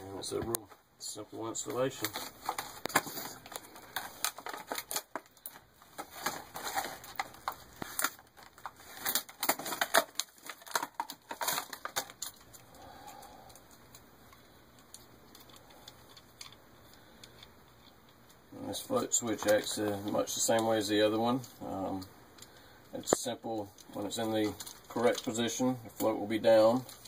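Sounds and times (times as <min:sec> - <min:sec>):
packaging crinkling and clicks: 0:01.9 - 0:27.0.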